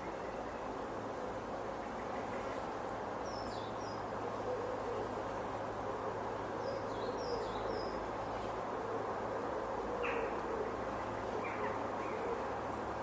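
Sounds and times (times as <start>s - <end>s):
breeze through trees: 0.0s - 13.0s.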